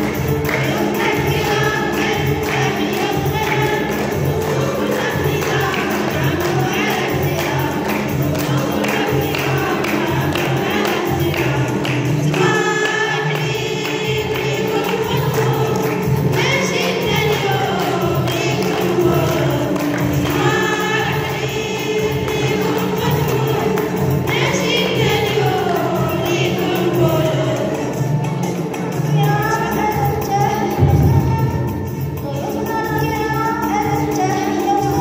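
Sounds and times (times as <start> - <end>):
group singing: 0.0 - 35.0
musical backing: 0.0 - 35.0.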